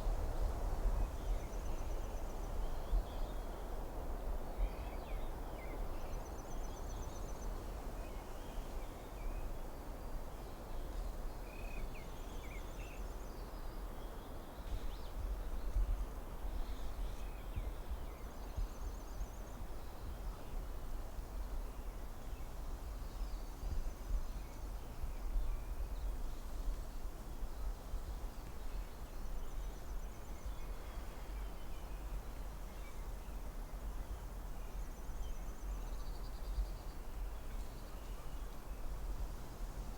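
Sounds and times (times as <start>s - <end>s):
wind through trees: 0.0s - 39.9s.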